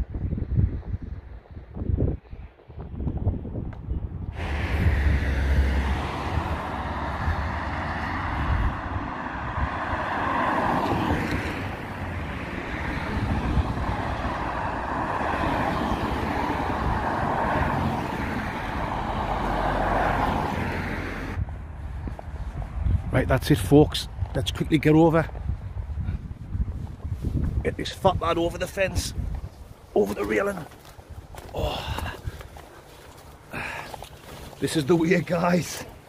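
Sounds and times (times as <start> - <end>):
cars passing with low rumble: 0.0 - 36.0.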